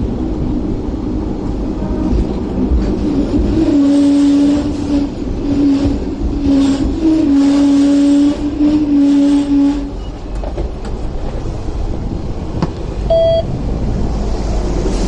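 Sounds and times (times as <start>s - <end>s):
tram running rumble: 0.0s - 15.0s.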